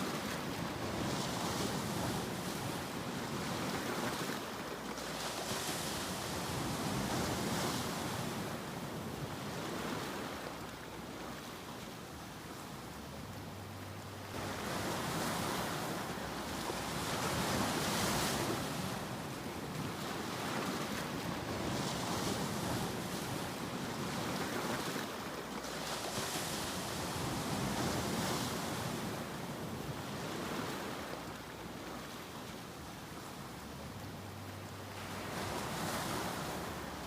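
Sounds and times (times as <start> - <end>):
ocean waves breaking: 0.0 - 37.0.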